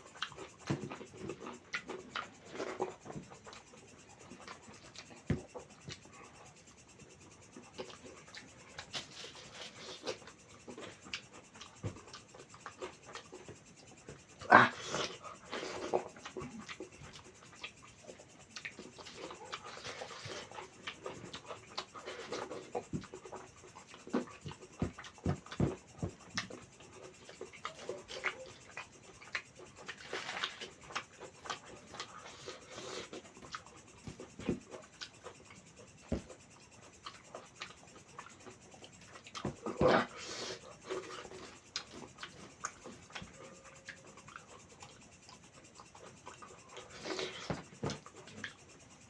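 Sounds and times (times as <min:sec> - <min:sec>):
wet chewing and mouth smacks: 0:07.6 - 0:13.6, 0:15.0 - 0:48.7.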